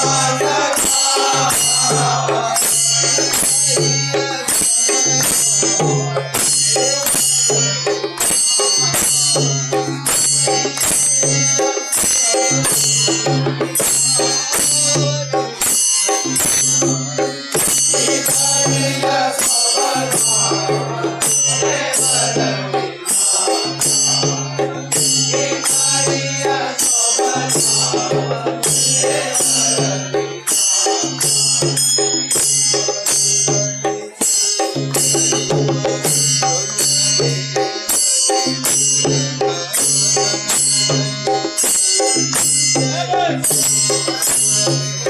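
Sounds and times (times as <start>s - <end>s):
devotional music: 0.0s - 45.0s
drums keeping a steady beat: 0.0s - 45.0s.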